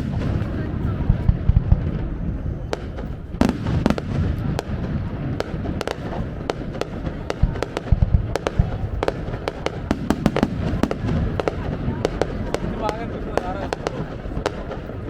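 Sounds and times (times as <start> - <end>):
fireworks bangs and crackles: 0.0 - 15.0
low rumble: 0.0 - 15.0.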